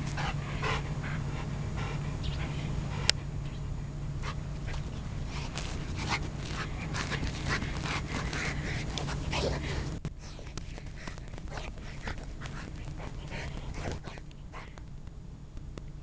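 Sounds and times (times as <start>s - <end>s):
dog panting and whimpering: 0.0s - 3.3s, 4.2s - 14.8s.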